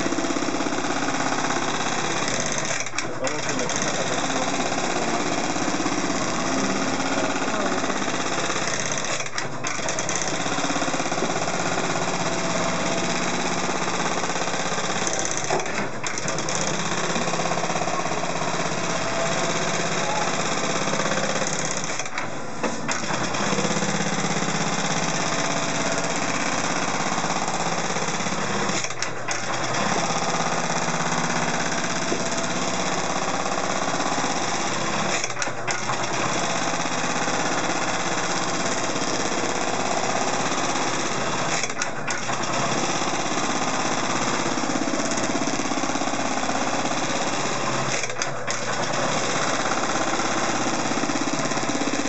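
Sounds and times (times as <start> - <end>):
sewing machine needle clatter: 0.0 - 52.0.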